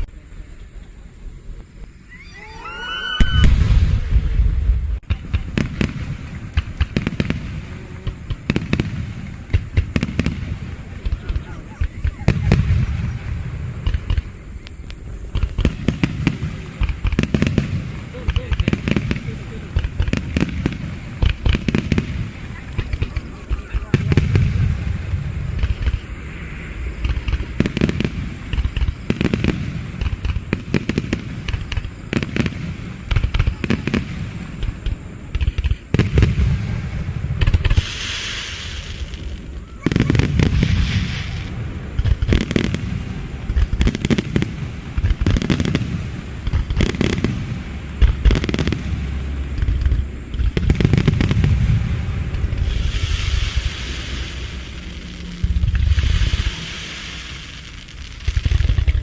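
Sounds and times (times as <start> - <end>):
fireworks crackling: 0.0 - 59.0
fireworks bangs and booms: 3.2 - 59.0.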